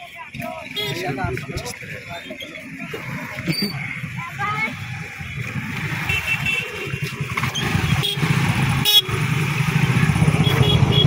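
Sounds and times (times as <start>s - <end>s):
scooter engines passing: 0.0s - 11.0s.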